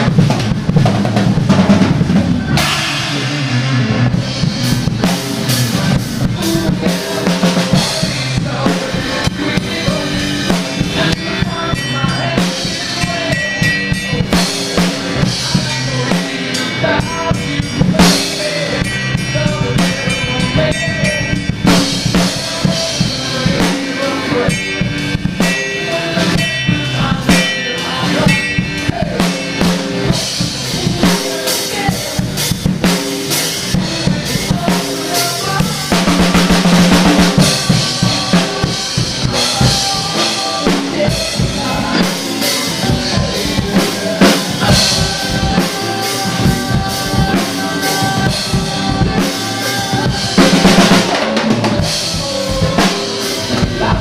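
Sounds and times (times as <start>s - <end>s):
backing music: 0.0s - 54.0s
drum kit groove: 0.0s - 54.0s.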